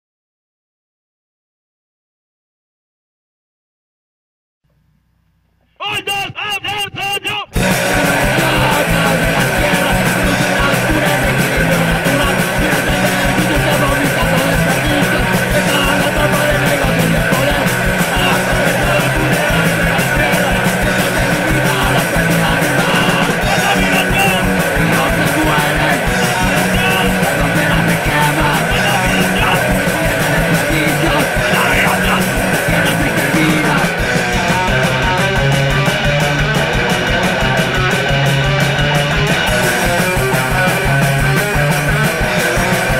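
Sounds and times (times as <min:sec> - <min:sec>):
vocals: 0:05.6 - 0:42.9
punk rock band playing: 0:05.8 - 0:42.9.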